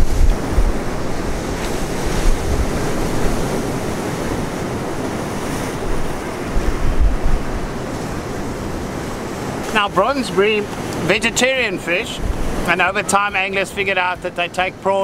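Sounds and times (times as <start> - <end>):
wind buffeting microphone: 0.0 - 13.2
surf washing over rocks: 0.0 - 15.0.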